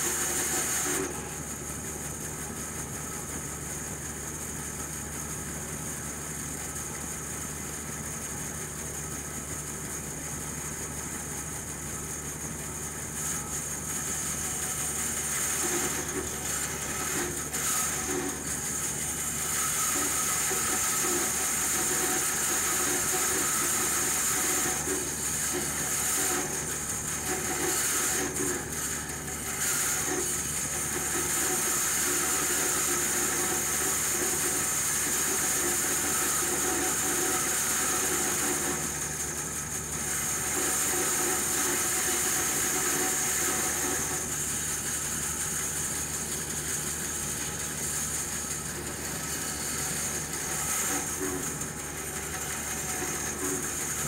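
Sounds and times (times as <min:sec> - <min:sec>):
band saw cutting wood: 0:00.0 - 0:01.8, 0:12.2 - 0:54.0.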